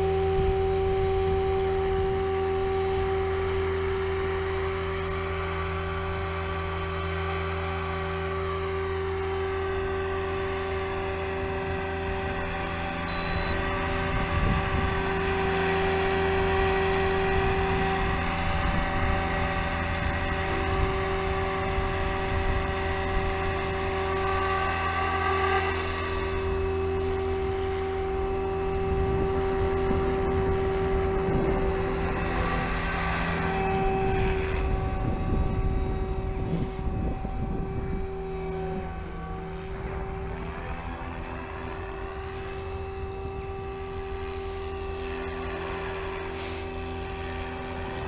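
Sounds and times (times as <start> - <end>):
rc helicopter whine: 0.0 - 48.0.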